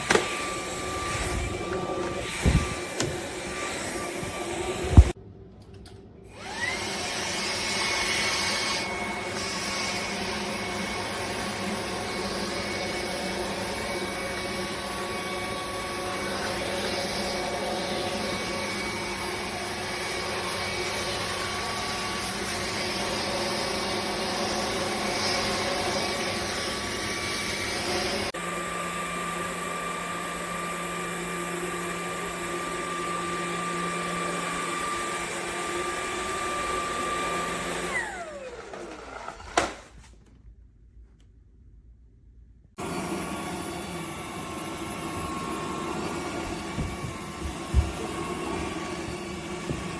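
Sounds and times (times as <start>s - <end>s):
stick vacuum cleaner motor: 0.0s - 5.2s, 6.3s - 40.3s, 42.8s - 49.9s.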